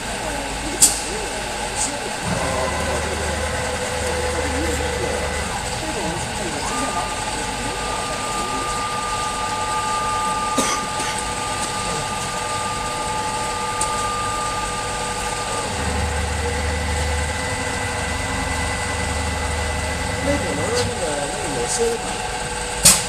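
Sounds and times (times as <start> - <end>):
high machine whine: 0.0 - 23.0
stone cutting machine humming: 0.0 - 23.0.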